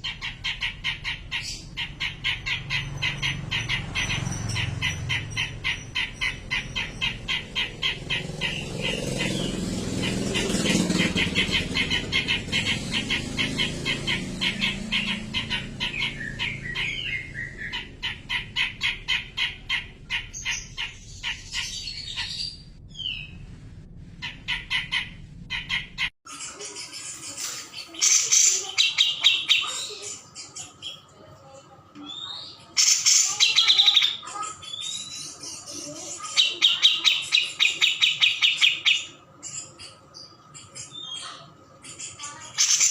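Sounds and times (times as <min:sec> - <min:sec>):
bird chattering calls: 0:00.0 - 0:23.4, 0:24.2 - 0:42.9
bird chirping rapidly: 0:00.0 - 0:23.5, 0:24.2 - 0:31.2, 0:32.0 - 0:42.9.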